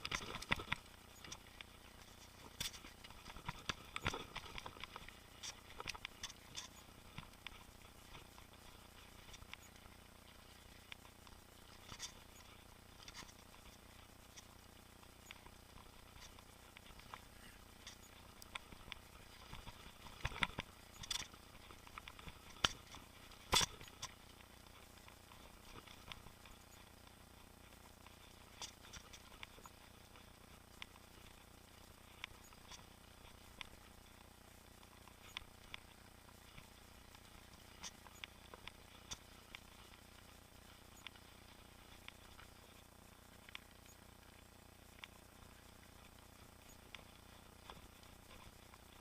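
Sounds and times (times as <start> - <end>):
faint steady hiss: 0.0 - 49.0
mountain bike rattling: 0.0 - 49.0.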